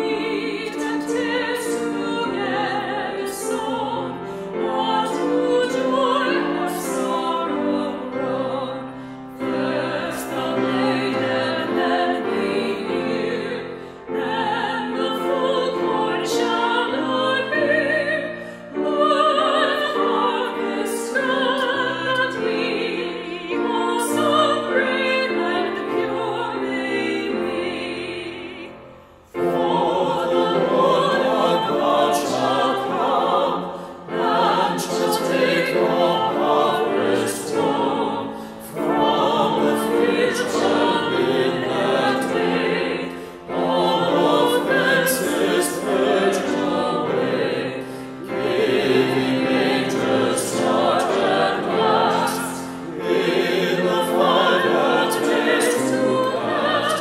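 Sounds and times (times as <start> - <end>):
choir singing a hymn: 0.0 - 57.0
piano accompaniment: 0.0 - 57.0.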